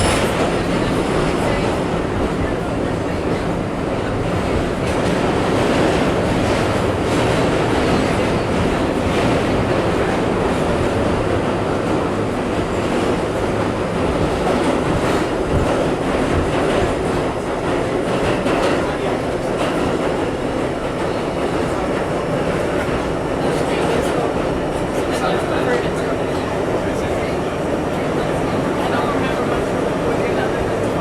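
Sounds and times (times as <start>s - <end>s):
subway wheels rumbling on rail: 0.0s - 31.0s.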